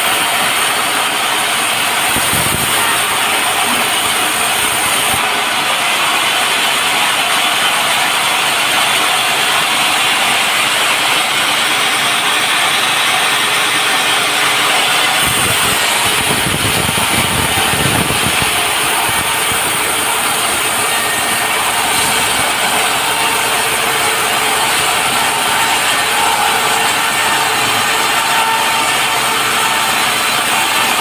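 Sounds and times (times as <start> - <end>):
sawmill mechanical noise with hiss: 0.0 - 31.0.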